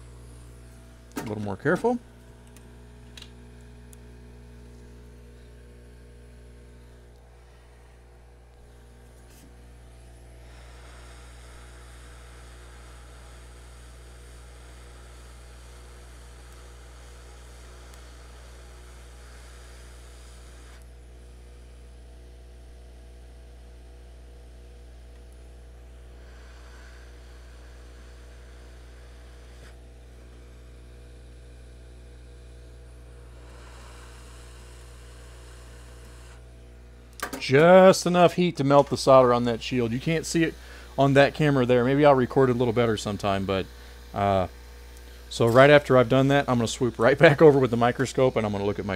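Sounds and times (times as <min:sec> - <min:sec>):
hot air station blowing: 0:00.0 - 0:21.1, 0:25.4 - 0:31.2, 0:32.2 - 0:48.9
electrical mains hum: 0:00.0 - 0:48.9.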